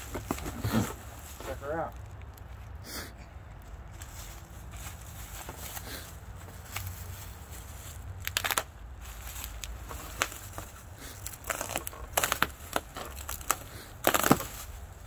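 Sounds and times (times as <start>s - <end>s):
bubble wrap crinkling: 0.0s - 2.7s, 3.6s - 15.0s.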